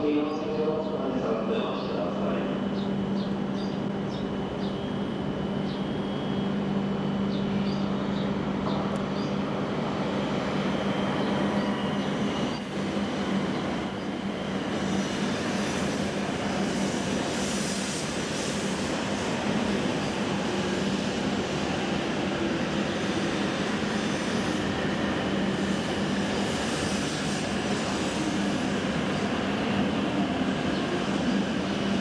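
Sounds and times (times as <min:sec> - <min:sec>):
train passing with hum and rumble: 0:00.0 - 0:32.0.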